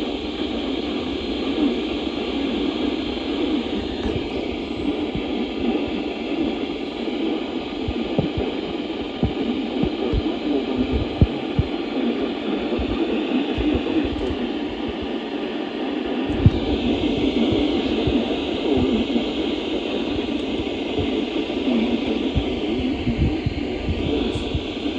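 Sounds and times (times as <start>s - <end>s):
static hiss and hum: 0.0s - 24.9s.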